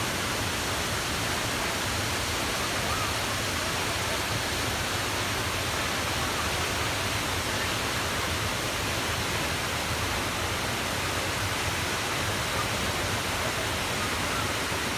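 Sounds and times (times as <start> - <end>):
rushing water: 0.0 - 14.9.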